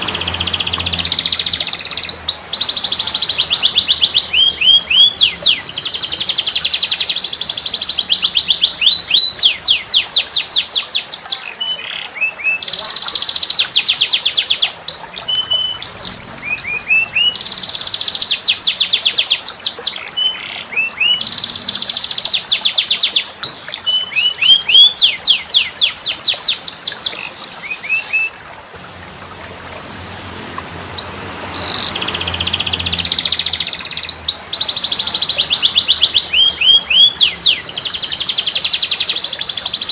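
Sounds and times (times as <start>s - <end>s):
bird chirps: 0.0s - 28.3s, 31.0s - 39.9s
songbird trills: 0.0s - 28.4s, 31.0s - 39.9s.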